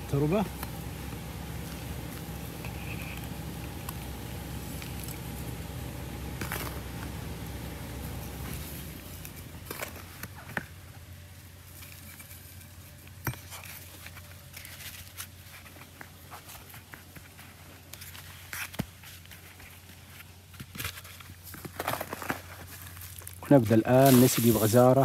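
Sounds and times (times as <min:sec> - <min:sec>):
soil gritty crunching: 0:00.0 - 0:25.0.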